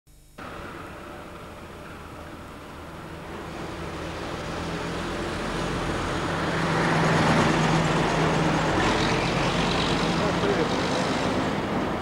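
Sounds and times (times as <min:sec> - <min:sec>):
truck engine approaching: 0:00.4 - 0:12.0.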